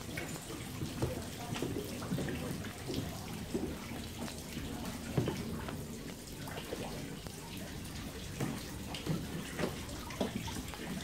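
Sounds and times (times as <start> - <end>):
water trickling in fountain: 0.0 - 11.0.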